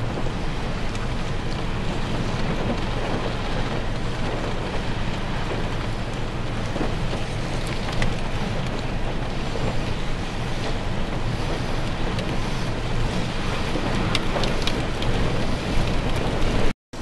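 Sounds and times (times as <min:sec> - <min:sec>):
wind blowing on microphone: 0:00.0 - 0:16.7
choppy lake water: 0:00.0 - 0:17.0.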